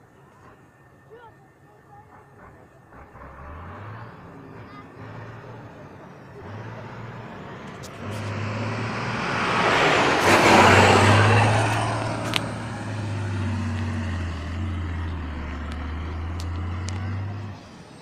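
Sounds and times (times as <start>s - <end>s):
truck diesel engine running hard: 2.1s - 18.0s
wheels churning dirt: 2.1s - 18.0s.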